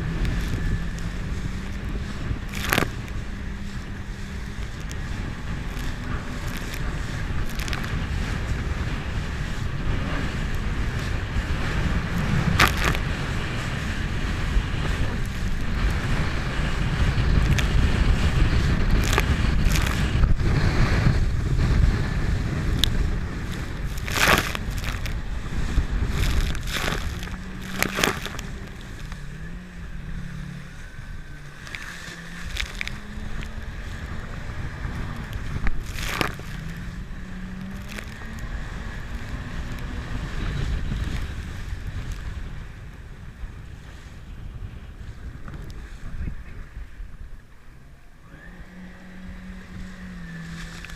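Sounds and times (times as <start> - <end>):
water slapping hull: 0.0 - 47.7, 48.6 - 50.9
jet ski engine: 0.0 - 50.9
wind buffeting microphone: 0.0 - 50.9.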